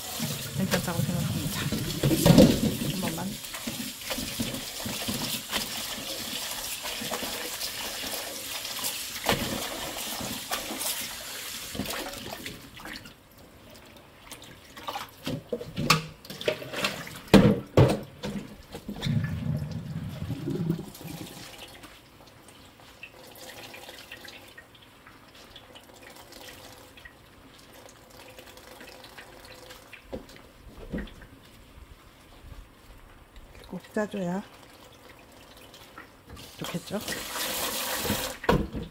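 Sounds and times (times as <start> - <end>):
tap water running into bowl: 0.0 - 13.2, 13.8 - 31.3, 33.4 - 38.9.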